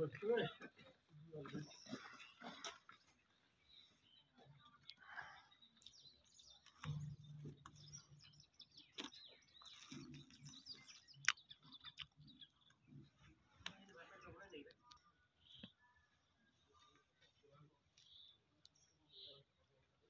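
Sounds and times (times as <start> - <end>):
bird chirps: 0.0 - 17.1, 17.9 - 19.8.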